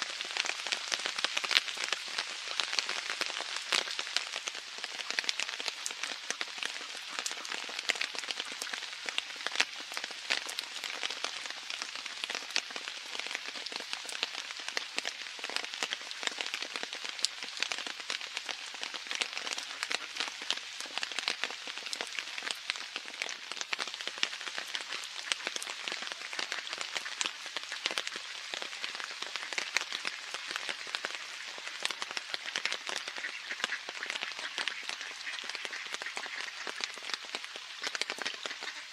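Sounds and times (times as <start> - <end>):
rain on wet pavement and water: 0.0 - 38.9.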